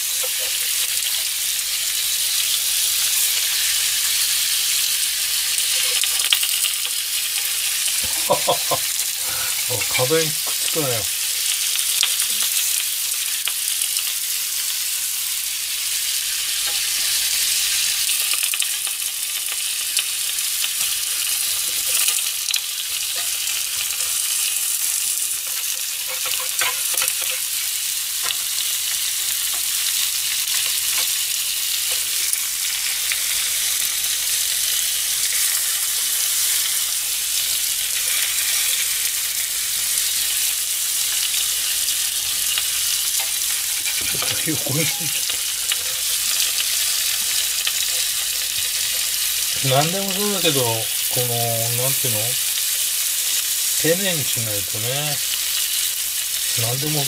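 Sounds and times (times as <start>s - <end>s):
patties sizzling in a pan: 0.0s - 57.0s.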